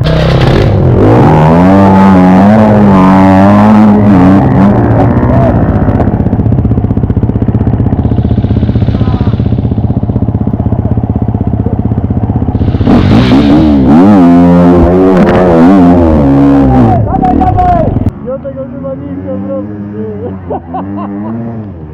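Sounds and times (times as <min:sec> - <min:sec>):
motorcycle engine running and revving: 0:00.0 - 0:21.9.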